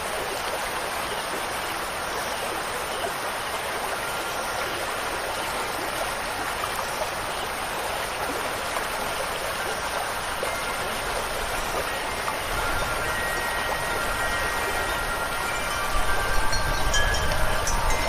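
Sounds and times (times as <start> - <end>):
stream rushing: 0.0 - 18.0.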